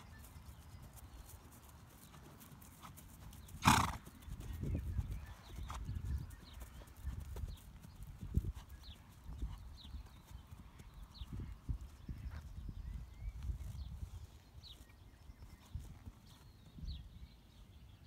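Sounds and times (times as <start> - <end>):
horse hooves on grass: 0.0 - 17.8.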